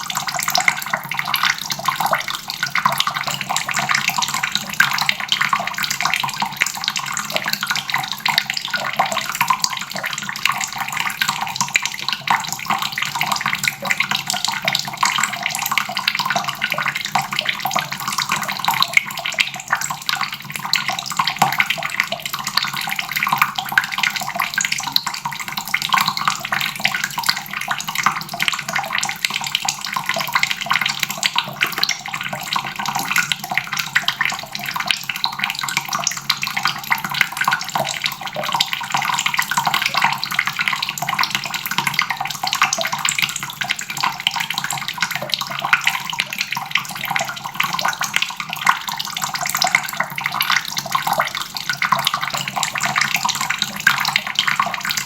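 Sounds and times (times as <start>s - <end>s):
water running from a faucet: 0.0s - 55.0s.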